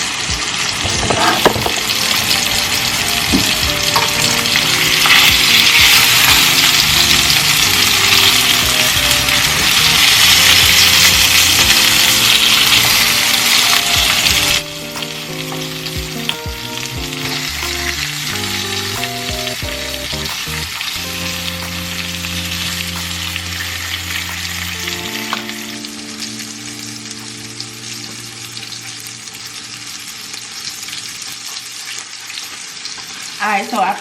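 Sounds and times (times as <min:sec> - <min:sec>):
food sizzling in a pan: 0:00.0 - 0:34.0
background music: 0:00.2 - 0:30.6.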